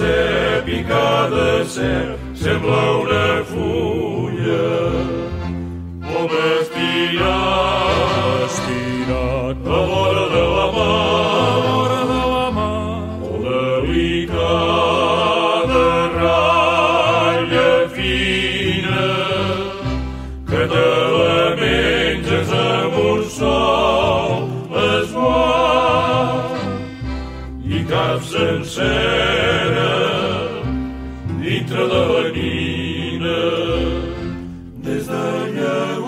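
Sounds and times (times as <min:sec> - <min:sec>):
instrumental accompaniment: 0:00.0 - 0:36.0
vocal group singing with vibrato: 0:00.0 - 0:36.0.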